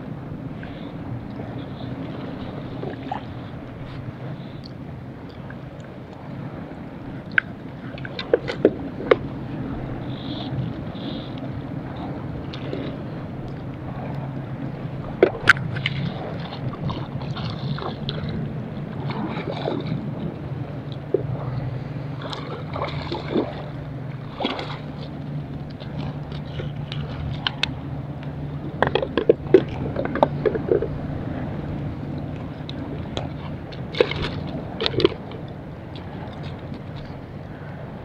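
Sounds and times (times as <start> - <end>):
low steady hum: 0.0 - 38.0
water slapping against boat: 0.0 - 38.0.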